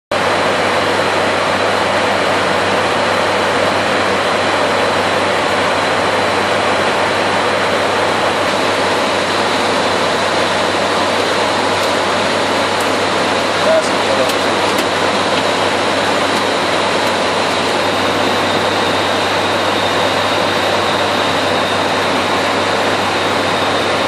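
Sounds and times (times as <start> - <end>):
low propeller drone: 0.1 - 24.0.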